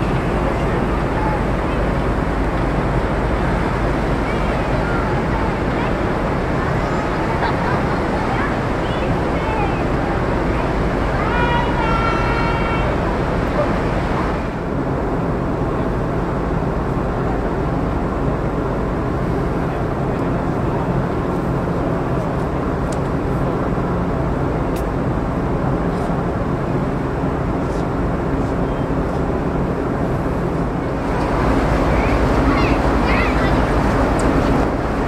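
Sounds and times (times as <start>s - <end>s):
low engine hum: 0.0s - 35.0s
wind and water rushing: 0.0s - 35.0s.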